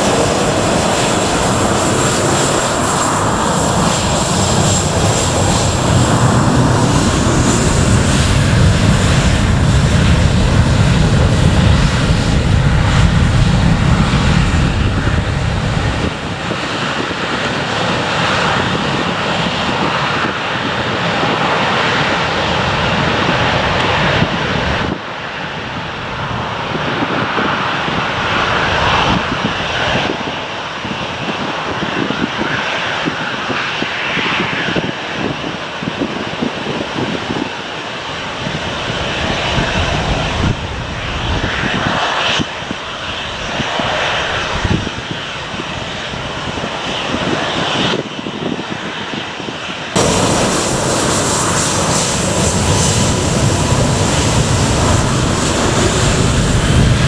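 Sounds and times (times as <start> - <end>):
jet engines roaring at takeoff: 0.0 - 57.0.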